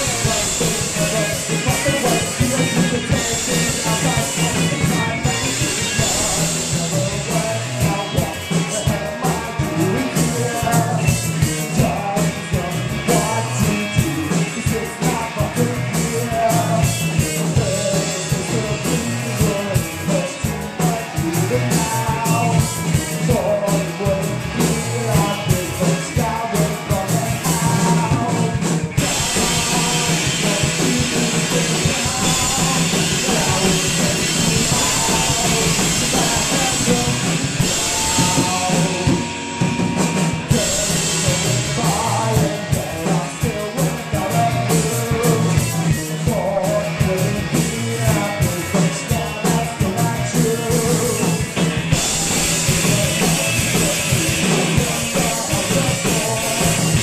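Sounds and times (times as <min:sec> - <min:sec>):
person singing lead vocals: 0:00.0 - 0:57.0
rock band playing live: 0:00.0 - 0:57.0.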